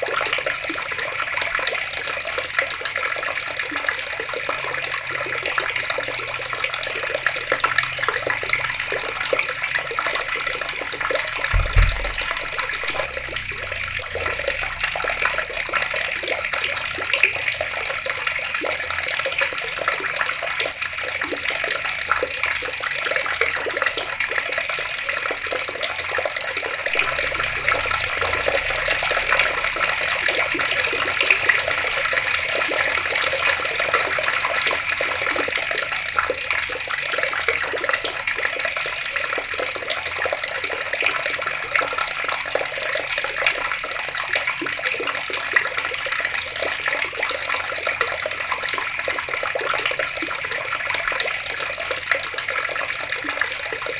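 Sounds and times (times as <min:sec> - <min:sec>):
water running from a tap: 0:00.0 - 0:53.9.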